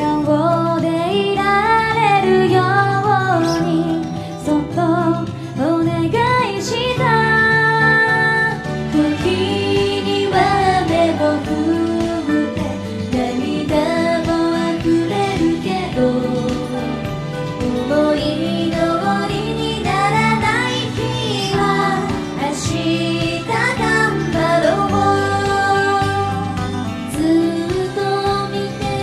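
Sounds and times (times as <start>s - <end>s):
instrumental backing: 0.0s - 29.0s
woman singing a pop ballad: 0.0s - 29.0s.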